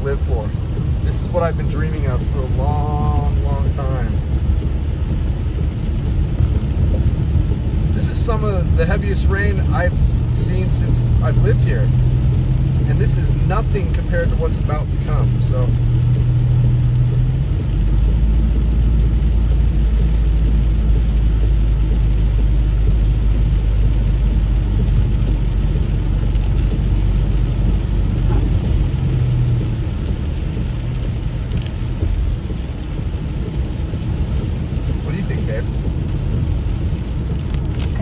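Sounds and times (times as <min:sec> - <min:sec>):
car engine and road rumble: 0:00.0 - 0:38.0
heavy rain: 0:00.0 - 0:38.0
tyres hissing on wet pavement: 0:00.0 - 0:38.0.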